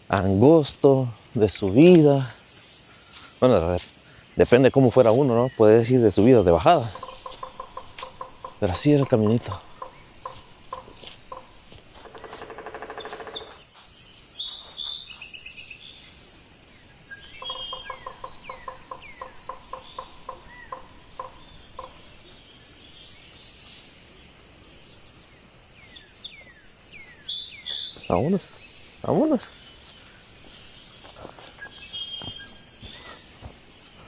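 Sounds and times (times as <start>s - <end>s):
birds calling and singing: 0.0s - 34.0s.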